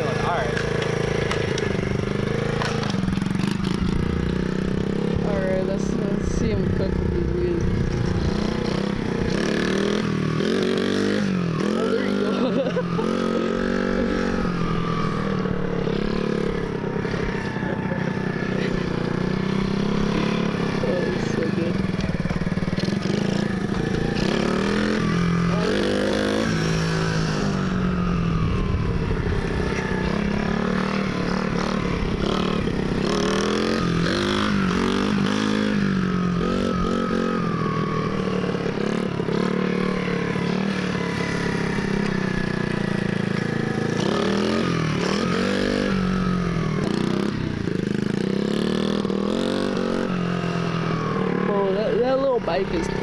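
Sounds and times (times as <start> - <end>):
small motorbike engine revving: 0.0 - 53.0.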